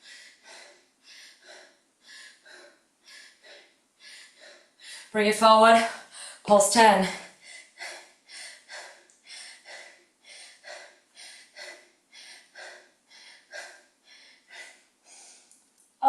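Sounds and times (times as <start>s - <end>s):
woman breathing hard: 0.0s - 5.2s, 5.9s - 6.5s, 7.1s - 15.6s.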